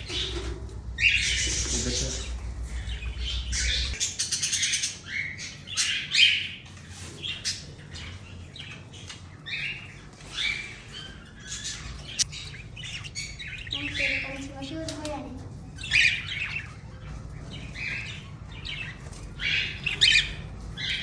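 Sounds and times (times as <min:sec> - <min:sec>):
aviary birds chirping and squawking: 0:00.0 - 0:21.0.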